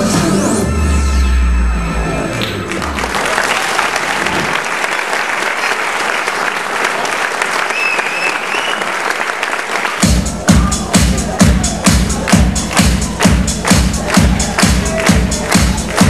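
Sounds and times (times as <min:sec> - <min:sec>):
stage music: 0:00.0 - 0:16.0
audience applauding: 0:02.4 - 0:16.0.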